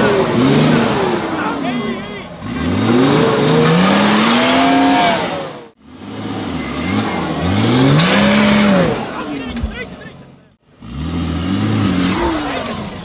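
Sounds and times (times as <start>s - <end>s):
off-road engine revving hard: 0.0s - 13.0s.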